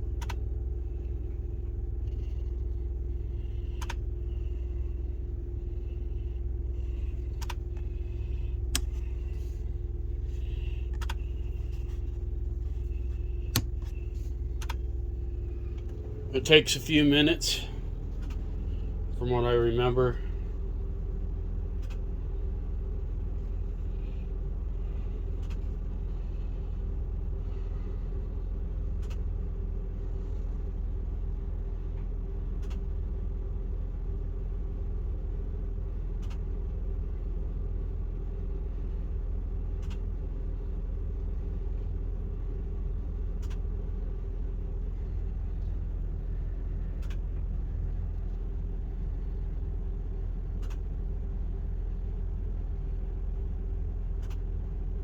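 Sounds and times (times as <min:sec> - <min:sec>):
generator running: 0:00.0 - 0:55.0.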